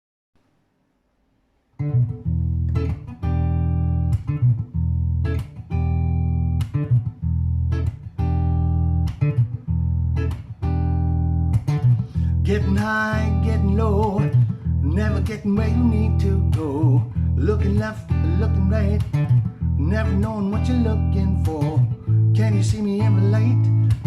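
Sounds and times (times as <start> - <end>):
fingerstyle guitar: 1.8 - 24.0
deep sustained bass line: 2.2 - 24.0.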